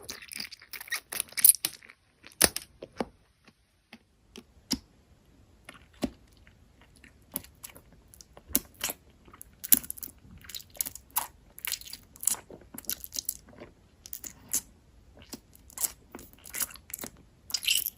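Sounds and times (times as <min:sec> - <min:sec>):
crunchy food being chewed: 0:00.0 - 0:04.8, 0:05.6 - 0:17.9.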